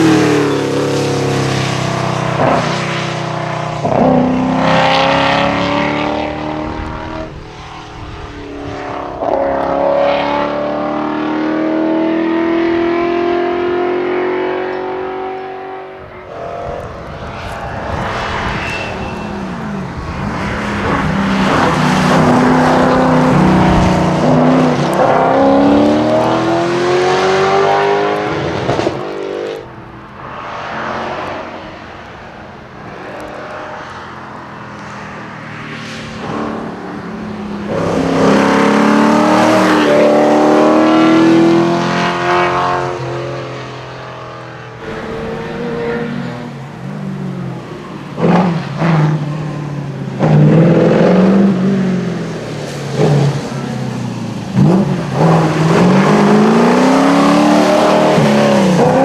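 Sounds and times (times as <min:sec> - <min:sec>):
rally cars accelerating past: 0:00.0 - 0:59.0.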